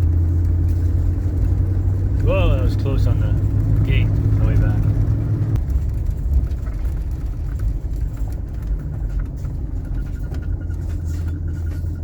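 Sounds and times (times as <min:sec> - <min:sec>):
engine low drone: 0:00.0 - 0:12.0.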